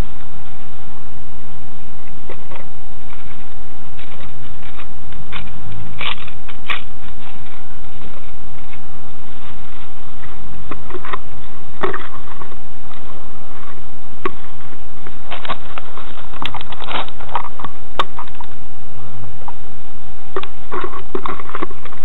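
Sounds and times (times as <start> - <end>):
thin whine and hiss: 0.0 - 22.0.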